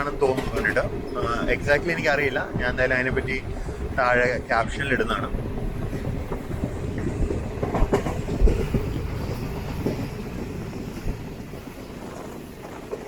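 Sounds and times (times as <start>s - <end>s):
train running on track: 0.0s - 13.0s
wheels clunking over rail joints: 0.0s - 13.0s.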